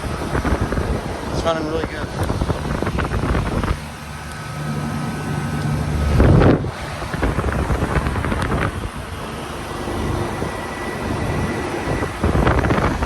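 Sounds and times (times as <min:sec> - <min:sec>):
air conditioner fan whooshing: 0:00.0 - 0:13.0
low compressor hum: 0:00.0 - 0:13.0
wind buffeting microphone: 0:00.0 - 0:13.0.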